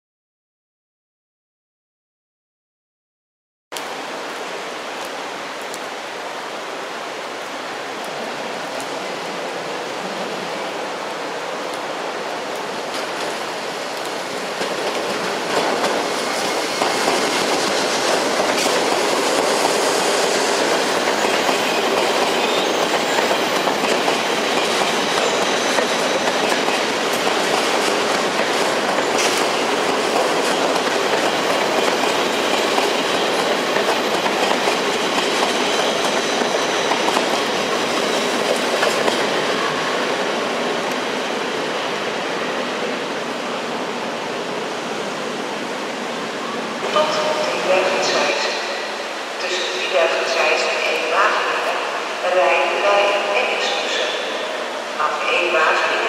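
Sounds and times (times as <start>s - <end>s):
rain hiss: 3.8s - 35.2s, 35.9s - 56.0s
electric train passing: 8.5s - 56.0s.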